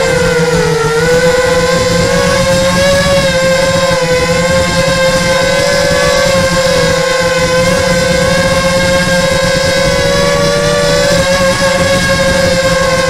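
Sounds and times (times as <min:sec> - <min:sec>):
rough rumble: 0:00.0 - 0:13.0
small motor whining: 0:00.0 - 0:13.0.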